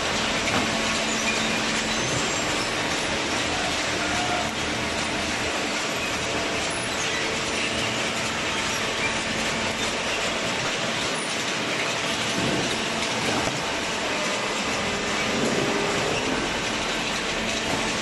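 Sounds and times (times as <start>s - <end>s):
baler clatter and hum: 0.0s - 18.0s.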